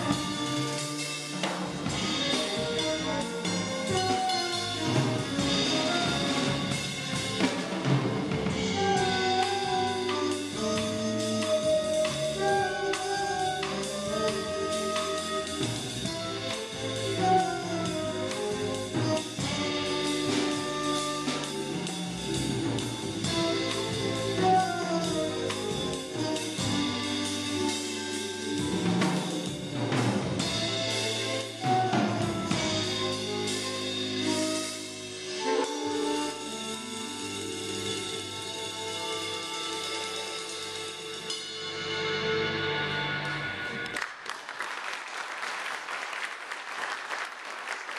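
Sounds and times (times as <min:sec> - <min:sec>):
trombone and trumpet: 0:00.0 - 0:07.6, 0:08.5 - 0:41.9
drum kit with busy cymbals: 0:00.0 - 0:43.2
flute: 0:00.0 - 0:43.9.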